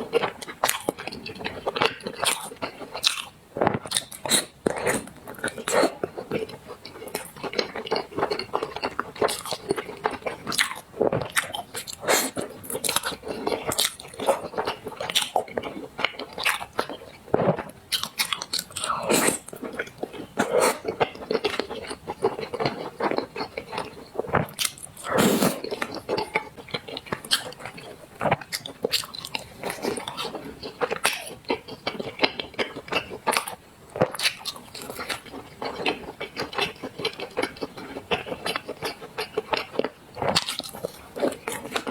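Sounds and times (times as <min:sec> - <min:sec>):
chewing and mouth clicks: 0:00.1 - 0:41.9.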